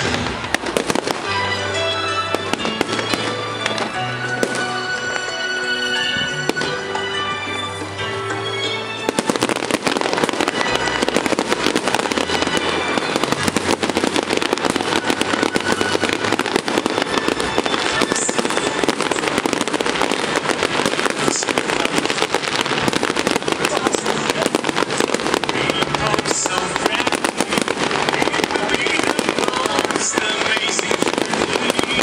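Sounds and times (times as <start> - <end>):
festival show music: 0.0 - 32.0
fireworks bangs and crackles: 0.0 - 32.0.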